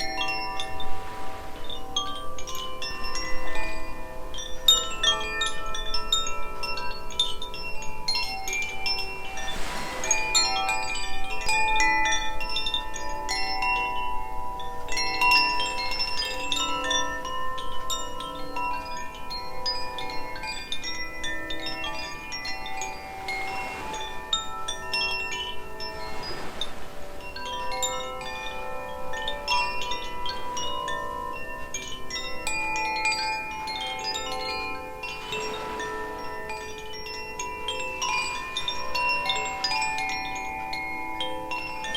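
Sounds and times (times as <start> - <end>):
wind chimes ringing: 0.0 - 41.9.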